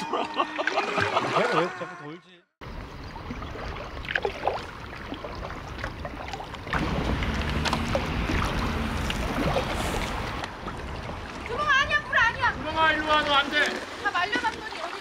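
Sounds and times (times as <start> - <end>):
water moving around kayak hull: 2.6 - 15.0.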